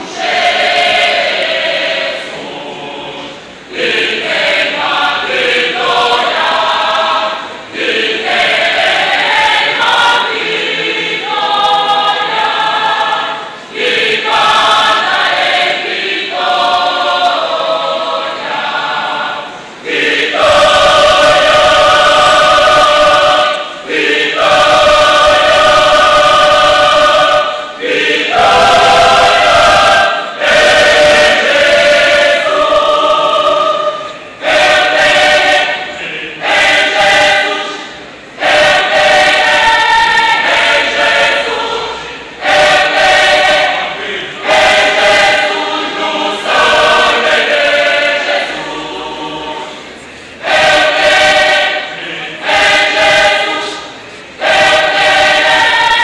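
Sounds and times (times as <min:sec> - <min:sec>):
mixed choir singing held chords: 0:00.0 - 0:56.0.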